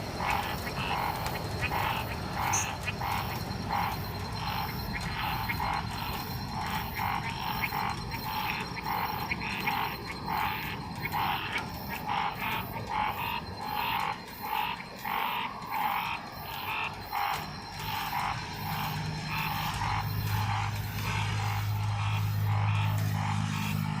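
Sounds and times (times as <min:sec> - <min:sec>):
tree frogs croaking: 0:00.0 - 0:24.0.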